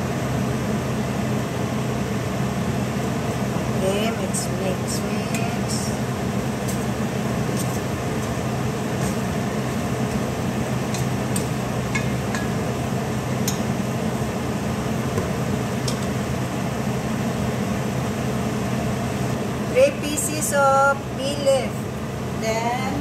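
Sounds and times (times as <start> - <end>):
steady appliance hum: 0.0 - 23.0.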